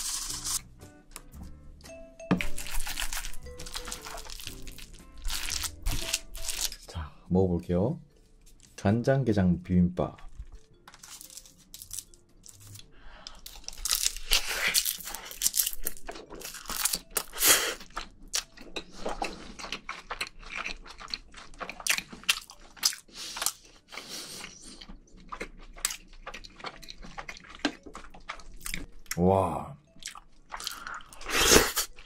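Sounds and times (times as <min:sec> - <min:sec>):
chewing with crisp crunching: 0:02.4 - 0:06.9, 0:10.1 - 0:32.0.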